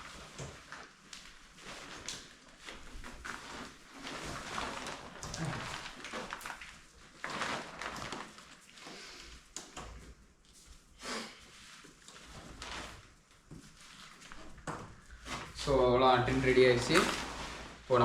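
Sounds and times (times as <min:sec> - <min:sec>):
tent fabric rustling: 0:00.0 - 0:09.5, 0:10.3 - 0:18.0.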